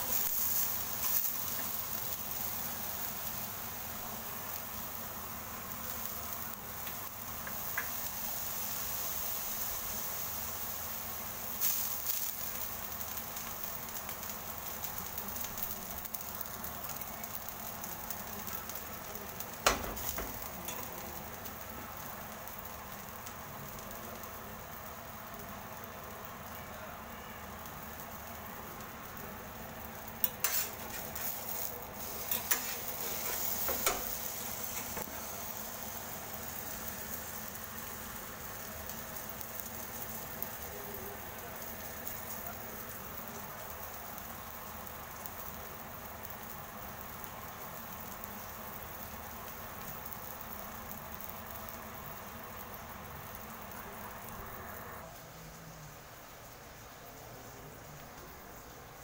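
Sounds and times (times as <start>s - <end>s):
burger patty sizzling on griddle: 0.0s - 59.0s.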